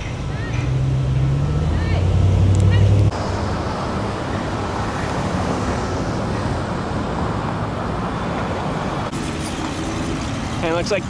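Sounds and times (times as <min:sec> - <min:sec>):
road traffic rushing: 0:00.0 - 0:11.0.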